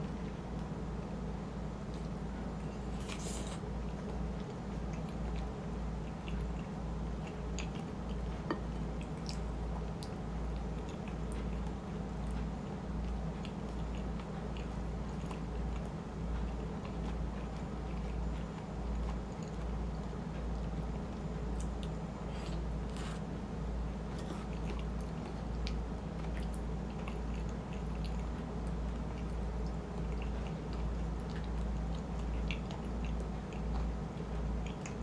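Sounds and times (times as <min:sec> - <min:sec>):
close-miked chewing: 0:00.0 - 0:35.0.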